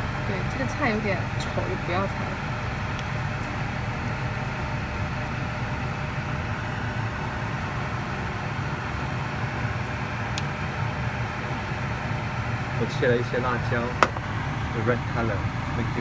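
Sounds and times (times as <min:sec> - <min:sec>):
steady low hum with hiss: 0:00.0 - 0:16.0.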